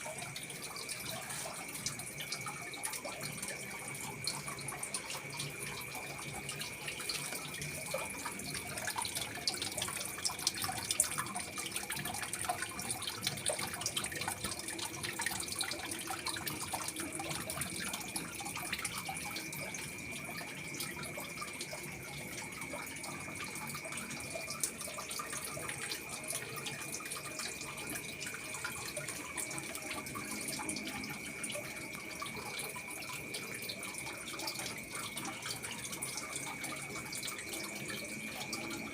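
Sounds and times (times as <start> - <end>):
water running and trickling: 0.0 - 38.9.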